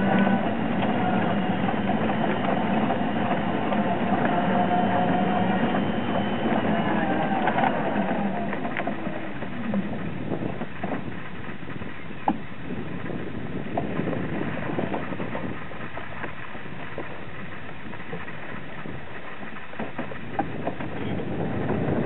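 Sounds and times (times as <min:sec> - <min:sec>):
small vehicle rumbling: 0:00.0 - 0:22.0
wind on microphone: 0:00.0 - 0:22.0.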